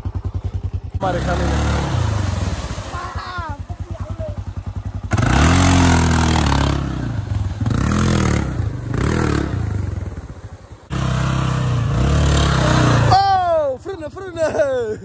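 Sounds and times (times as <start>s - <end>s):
atv engine revving hard: 0.0s - 13.4s
water splashing off tyres: 0.0s - 14.7s.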